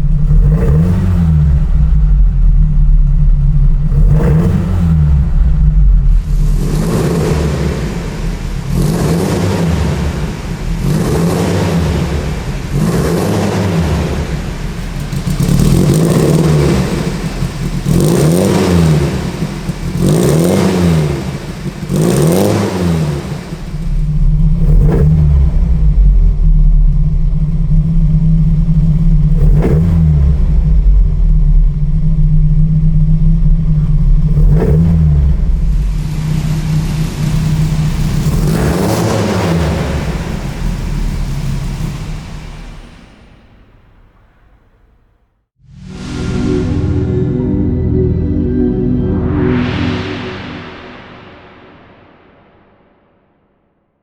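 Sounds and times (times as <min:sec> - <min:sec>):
car engine idling and revving: 0:00.0 - 0:44.6.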